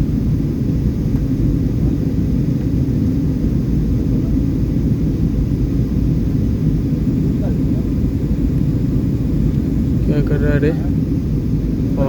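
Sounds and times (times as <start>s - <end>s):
aeroplane cabin engine rumble: 0.0s - 12.0s.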